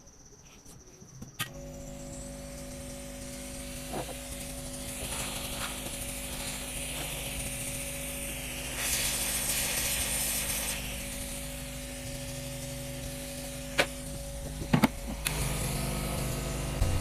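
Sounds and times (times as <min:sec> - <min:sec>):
hot air station fan hum and hiss: 0:00.0 - 0:17.0.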